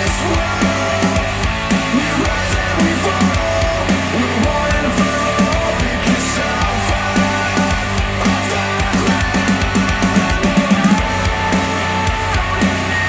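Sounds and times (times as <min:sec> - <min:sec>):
rock music over speakers: 0:00.0 - 0:13.0.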